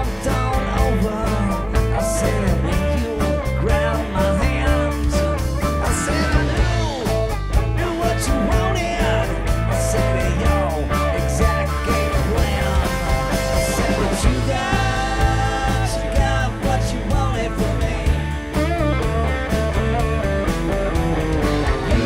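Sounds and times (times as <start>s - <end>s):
electric guitars bending notes: 0.0s - 22.0s
rock band playing: 0.0s - 22.0s.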